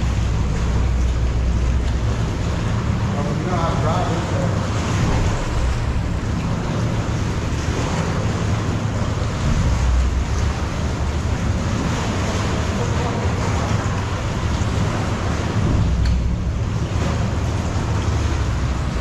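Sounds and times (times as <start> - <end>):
motorboat running slowly: 0.0 - 19.0
sea water sloshing against rock: 0.0 - 19.0.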